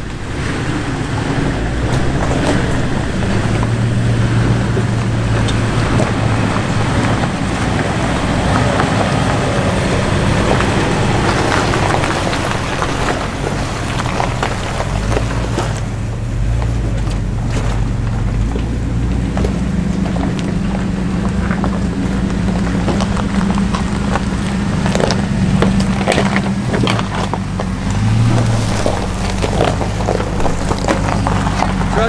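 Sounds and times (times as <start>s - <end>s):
vehicle engine running: 0.0s - 32.0s
vehicle knocks and rattles: 0.0s - 32.0s.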